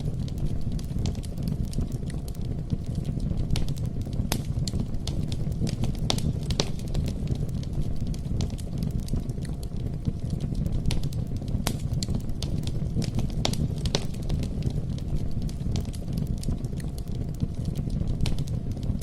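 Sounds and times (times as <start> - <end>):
campfire rumble: 0.0 - 19.0
fire popping and crackling: 0.0 - 19.0.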